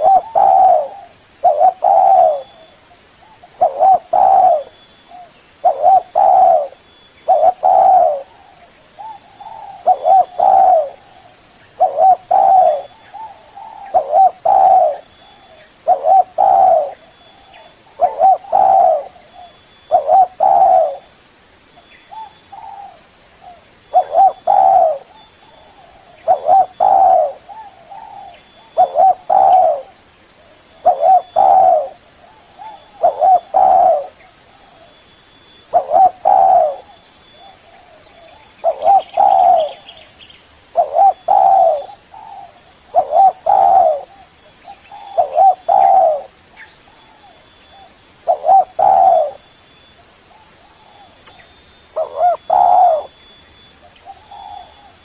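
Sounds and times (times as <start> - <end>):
dove cooing: 0.0 - 21.1, 22.1 - 49.5, 50.1 - 55.0.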